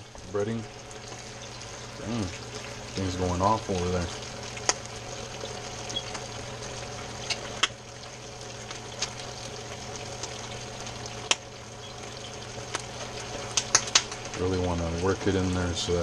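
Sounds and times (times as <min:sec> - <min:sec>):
oil popping and crackling: 0:00.0 - 0:16.0
potato slices sizzling in oil: 0:00.0 - 0:16.0
steady low hum: 0:00.0 - 0:16.0.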